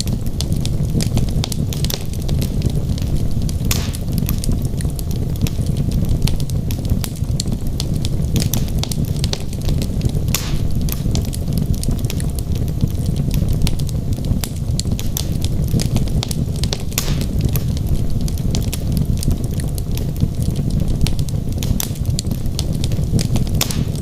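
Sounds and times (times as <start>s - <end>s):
wood fire rumbling and crackling: 0.0s - 24.0s.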